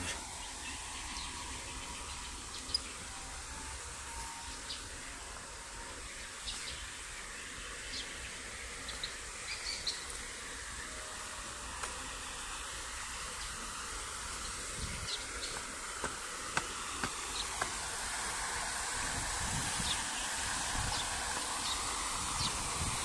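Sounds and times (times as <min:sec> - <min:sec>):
water cascade splashing: 0:00.0 - 0:23.0.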